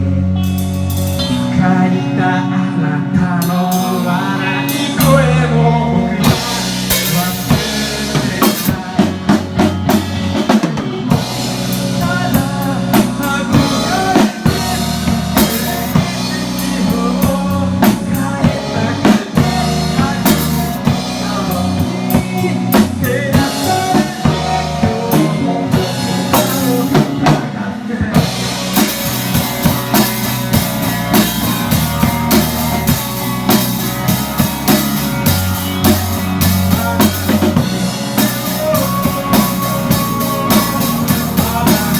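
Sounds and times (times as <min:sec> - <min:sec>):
drum kit hits and cymbals: 0:00.0 - 0:01.4, 0:06.2 - 0:41.9
band playing: 0:00.0 - 0:41.9.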